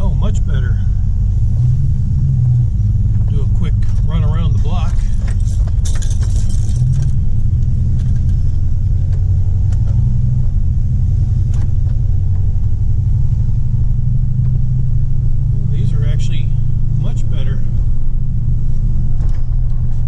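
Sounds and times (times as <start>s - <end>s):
pickup engine at low speed: 0.0s - 20.0s
road rumble: 0.0s - 20.0s.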